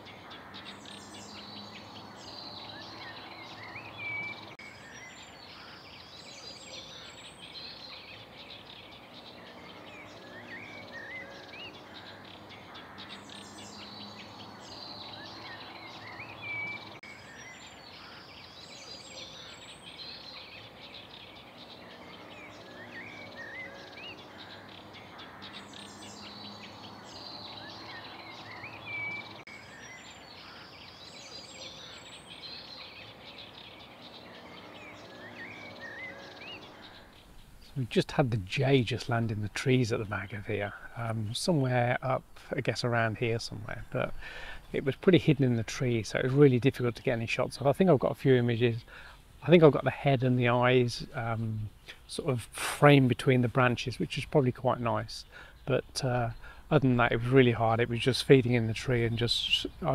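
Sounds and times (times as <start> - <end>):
outdoor background noise: 0.0 - 59.9
songbirds singing: 0.0 - 59.9.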